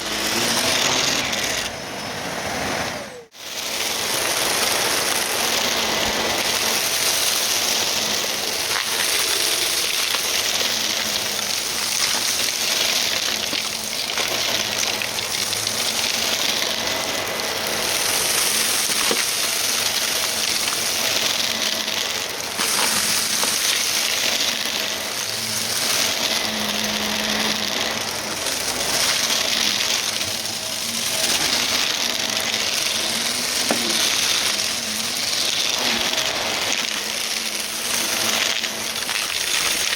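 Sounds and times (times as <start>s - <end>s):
vacuum cleaner suction: 0.0s - 39.9s
debris crunching: 3.4s - 39.9s.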